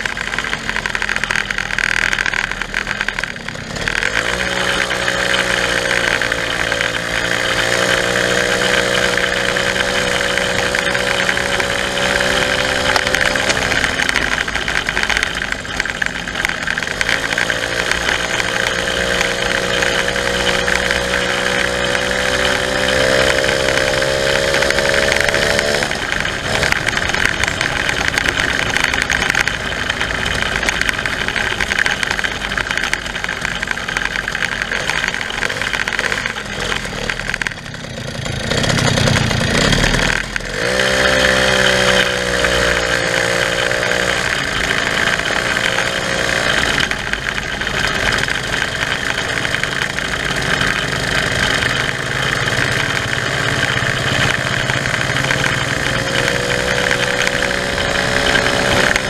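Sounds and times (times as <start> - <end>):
moped engine running: 0.0 - 59.0.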